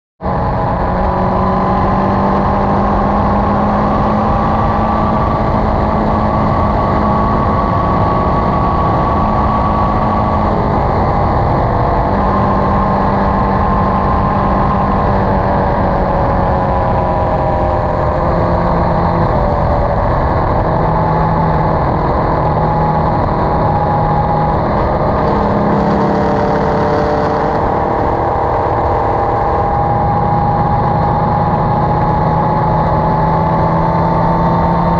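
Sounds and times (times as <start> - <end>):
motorcycle engine drone: 0.2 - 34.9
wind and road rush: 0.2 - 34.9.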